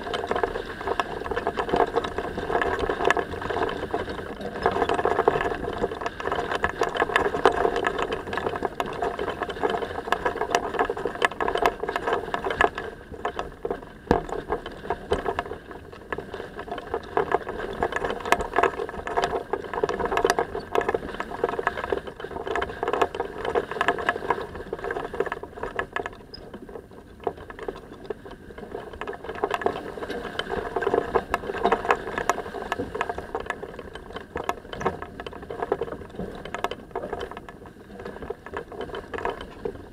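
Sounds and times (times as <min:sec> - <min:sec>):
water rushing along hull: 0:00.0 - 0:39.9.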